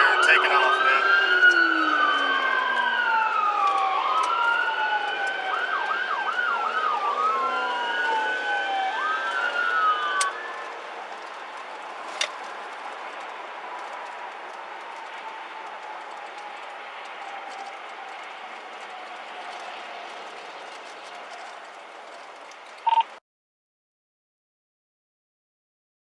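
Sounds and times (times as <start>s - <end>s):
police sirens wailing: 0.0s - 23.0s.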